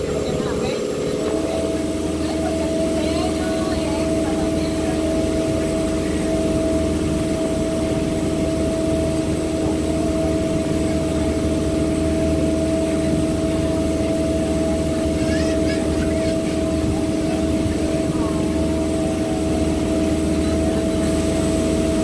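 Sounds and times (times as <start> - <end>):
boat engine drone: 0.0 - 22.0
high engine whine: 0.0 - 22.0.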